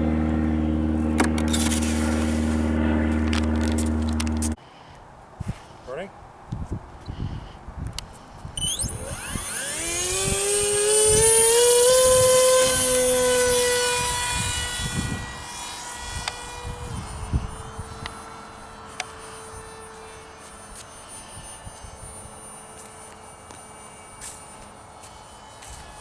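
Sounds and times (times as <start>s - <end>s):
electric motor and propeller whine: 0.0s - 4.6s, 7.1s - 26.0s.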